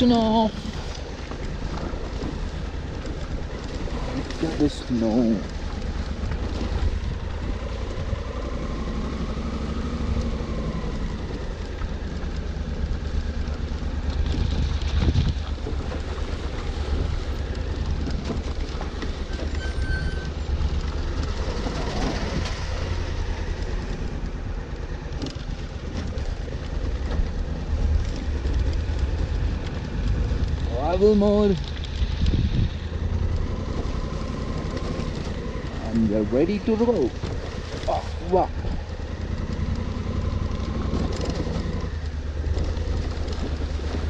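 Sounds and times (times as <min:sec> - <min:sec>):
motorcycle engine rumbling: 0:00.0 - 0:44.0.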